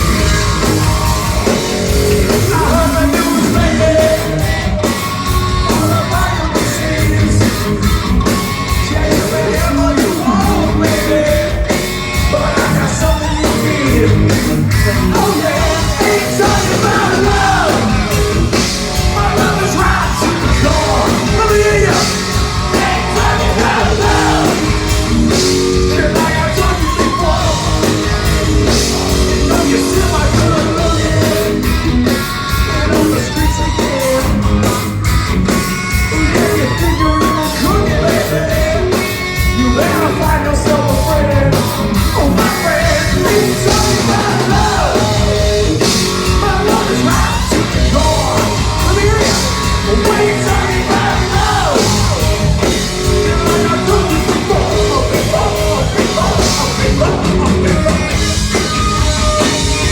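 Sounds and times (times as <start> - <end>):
distorted electric guitar: 0.0 - 59.9
live rock band: 0.0 - 59.9.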